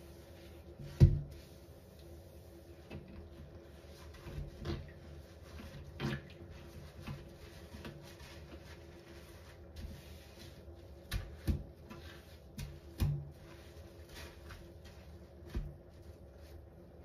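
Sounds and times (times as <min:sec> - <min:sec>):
wet sponge squelching: 0:00.0 - 0:17.0.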